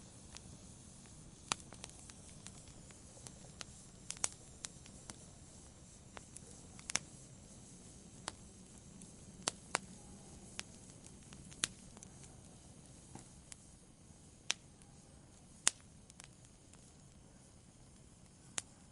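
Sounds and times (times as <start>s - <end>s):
wood fire crackling: 0.0s - 18.9s.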